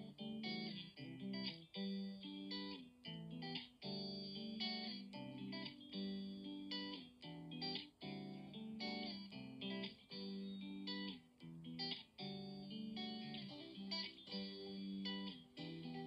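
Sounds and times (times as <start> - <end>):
plucked guitar melody: 0.0 - 16.0.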